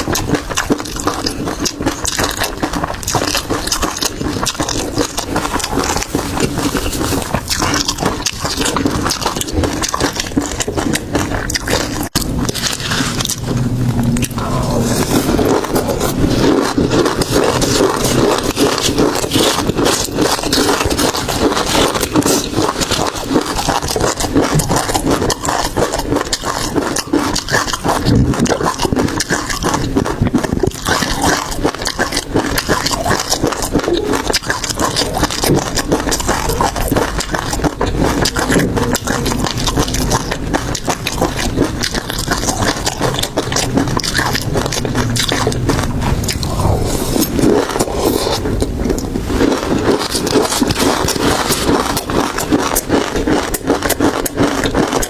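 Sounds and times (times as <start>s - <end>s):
chewing and crunching seafood: 0.0s - 55.0s.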